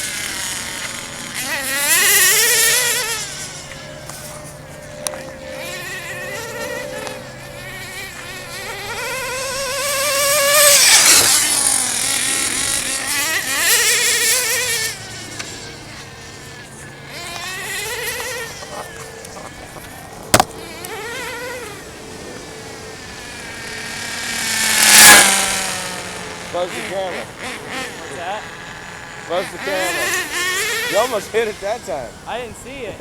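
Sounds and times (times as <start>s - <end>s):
toy car motor whining: 0.0s - 33.0s.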